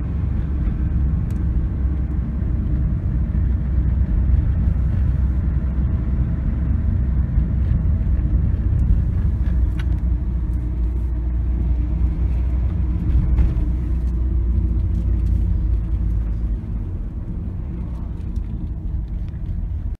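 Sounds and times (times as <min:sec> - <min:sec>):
car cabin road and engine rumble: 0:00.0 - 0:19.9.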